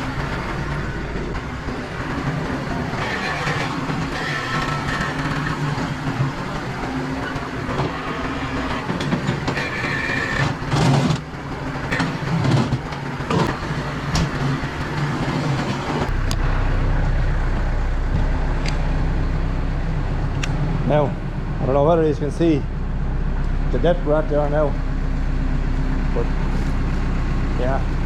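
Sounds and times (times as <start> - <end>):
farm machine engine running: 0.0 - 28.0.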